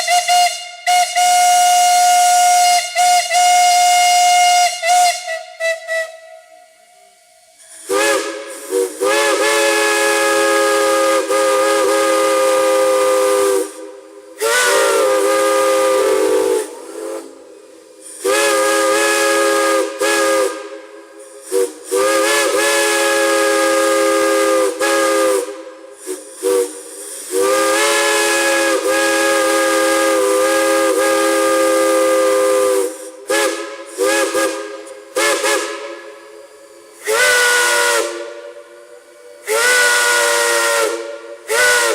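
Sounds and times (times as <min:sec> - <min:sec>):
steam hiss: 0:00.0 - 0:41.9
steam whistle blasts: 0:00.0 - 0:41.9.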